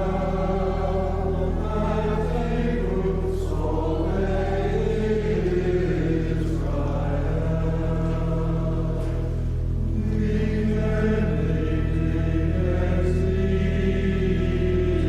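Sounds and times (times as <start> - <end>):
choir singing chords: 0.0 - 15.0
low accompaniment: 0.0 - 15.0.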